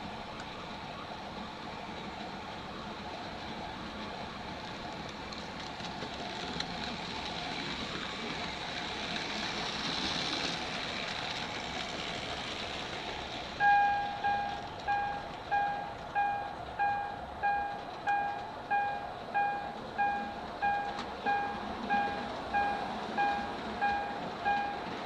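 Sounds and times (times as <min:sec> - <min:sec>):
model train rolling on track: 0:00.0 - 0:25.0.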